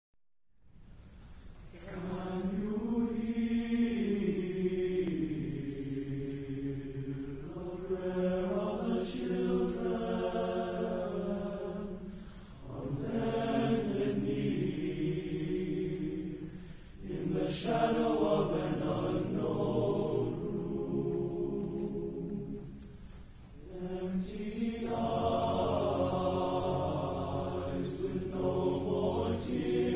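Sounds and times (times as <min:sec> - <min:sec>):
chanting voices holding long notes: 0:01.7 - 0:29.9.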